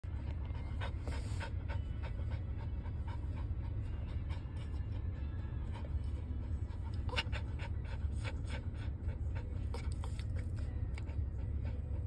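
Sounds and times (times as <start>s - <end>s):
dog panting: 0.1s - 12.0s
low rumble of car cabin: 0.1s - 12.0s.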